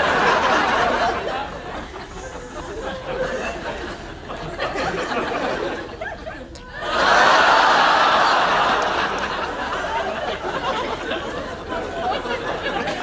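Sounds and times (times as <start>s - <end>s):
audience laughter: 0.0s - 13.0s.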